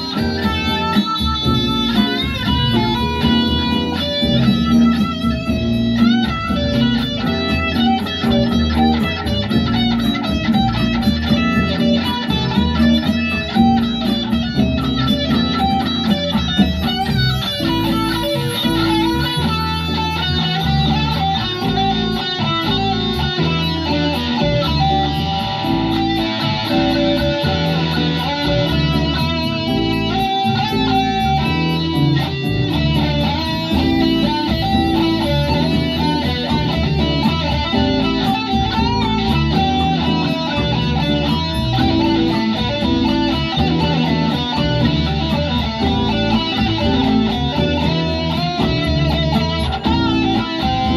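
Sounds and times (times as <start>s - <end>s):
electric guitar playing: 0.0s - 50.9s.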